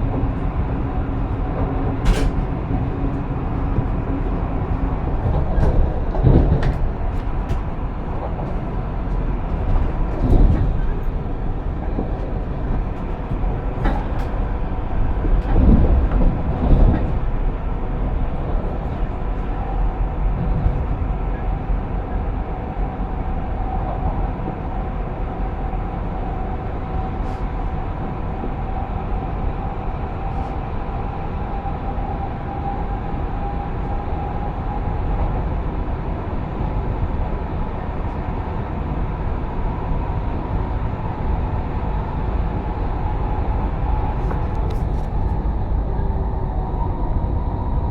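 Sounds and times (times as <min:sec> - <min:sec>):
steady train whine: 0:00.0 - 0:47.9
train wheels rumbling on rail: 0:00.0 - 0:47.9.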